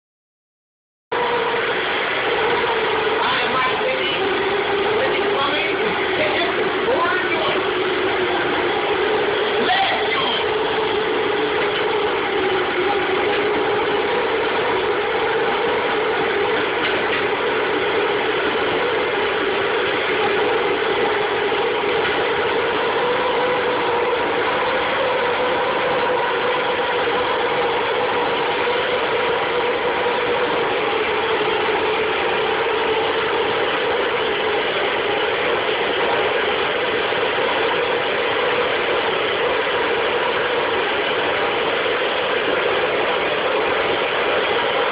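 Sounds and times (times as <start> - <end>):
propane burner roaring: 1.1 - 44.9.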